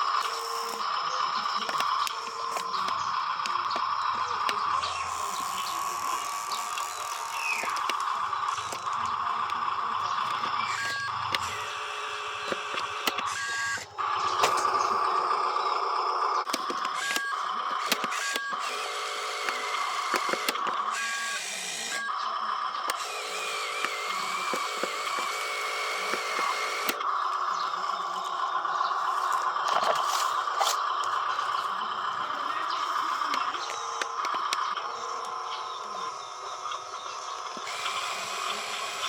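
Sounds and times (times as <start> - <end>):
toy electric motors whining: 0.0 - 39.0.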